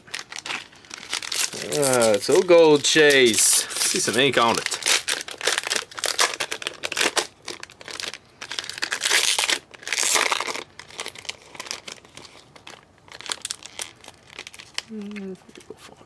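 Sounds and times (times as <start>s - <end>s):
card pack wrappers crinkling and tearing: 0.0s - 15.8s.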